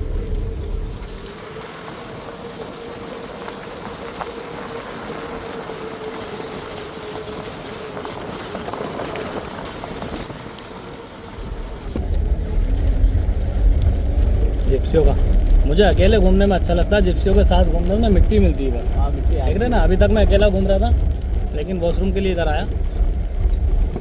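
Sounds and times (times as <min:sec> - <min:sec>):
steady whine: 0:00.0 - 0:08.3, 0:10.1 - 0:24.0
jeep rattling on dirt track: 0:00.0 - 0:24.0.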